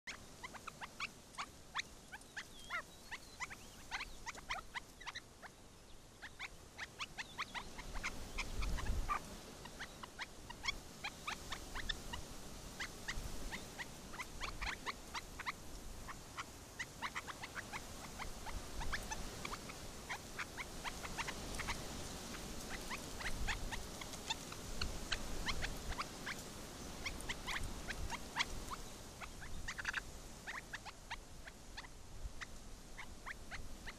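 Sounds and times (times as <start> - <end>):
partridge chicks peeping: 0.1 - 5.6, 6.2 - 33.9.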